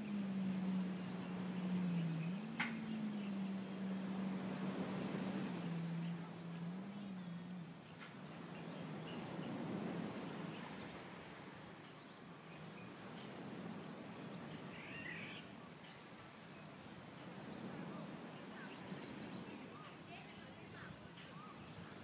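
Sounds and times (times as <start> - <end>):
birds chirping: 0.0 - 22.0
low steady hum: 0.0 - 22.0
outdoor background hiss: 0.0 - 22.0.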